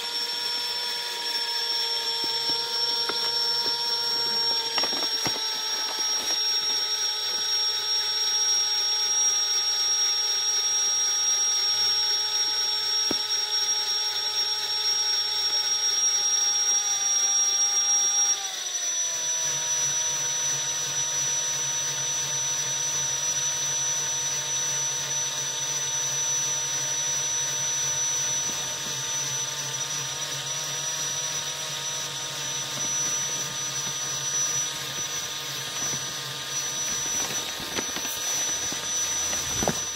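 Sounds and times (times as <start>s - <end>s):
electric motor whirring: 0.0s - 39.9s.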